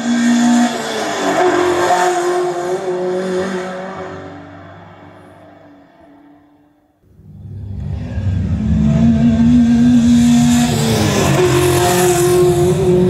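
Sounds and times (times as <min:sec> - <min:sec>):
race car engine: 0:00.0 - 0:13.0.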